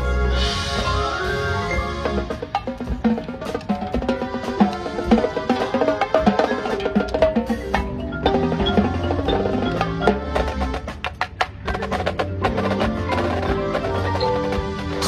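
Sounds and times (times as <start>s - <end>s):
drum and bugle corps playing: 0.0s - 15.0s
mallet percussion: 0.0s - 15.0s
drums striking: 0.4s - 15.0s.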